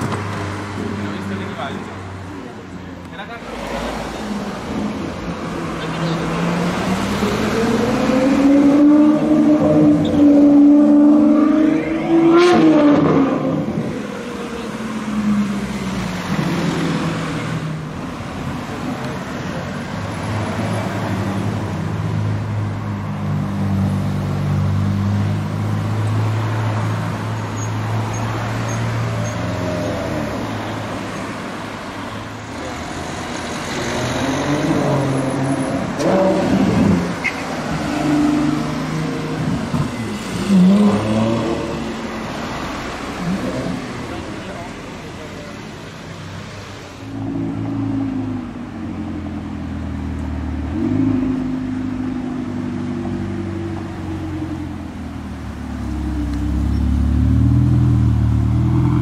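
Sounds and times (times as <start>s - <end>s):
car engines in traffic: 0.0s - 59.0s
engines revving and pulling away: 0.0s - 59.0s.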